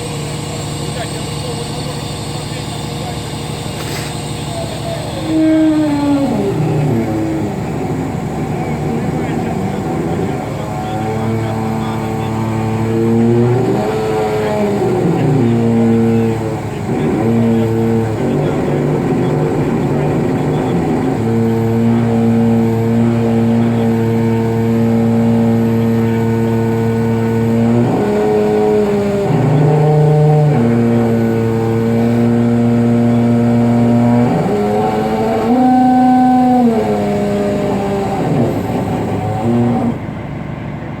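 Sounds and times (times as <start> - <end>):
excavator droning hum: 0.0 - 41.0.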